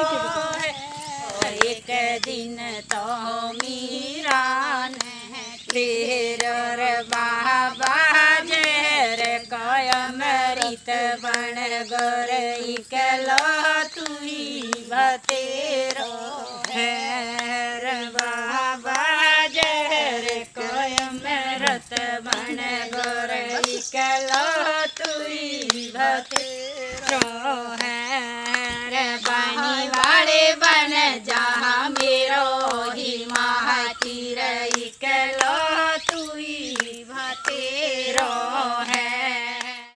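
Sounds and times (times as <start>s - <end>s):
woman singing: 0.0s - 39.9s.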